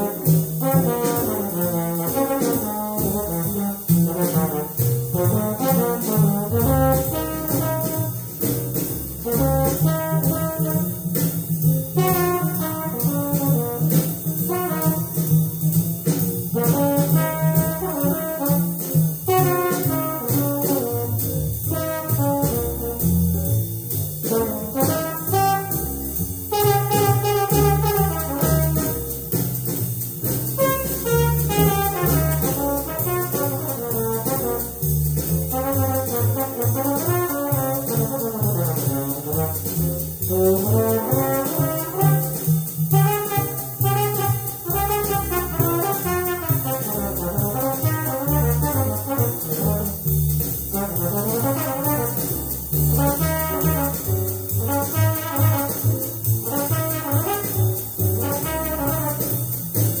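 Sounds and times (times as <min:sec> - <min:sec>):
brass horn solo: 0:00.0 - 0:08.2, 0:12.0 - 0:15.1, 0:16.6 - 0:23.2, 0:24.3 - 0:29.0, 0:30.6 - 0:34.9, 0:35.5 - 0:39.7, 0:40.3 - 0:50.0, 0:50.7 - 0:54.0, 0:54.6 - 0:59.5
drums with ride cymbal: 0:00.0 - 1:00.0
walking bass: 0:00.0 - 1:00.0.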